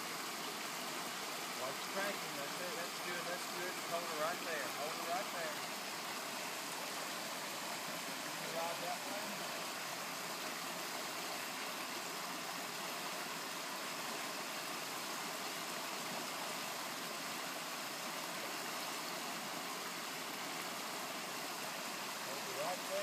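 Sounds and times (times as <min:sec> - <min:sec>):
stream water rushing over rocks: 0:00.0 - 0:23.0.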